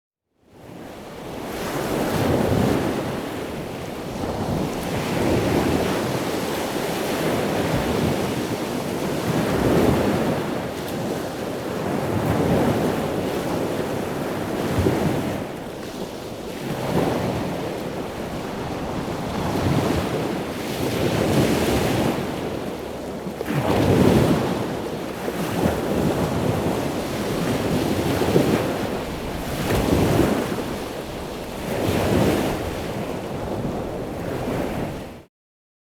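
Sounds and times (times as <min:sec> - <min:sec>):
ocean waves breaking on beach: 0:00.6 - 0:35.3.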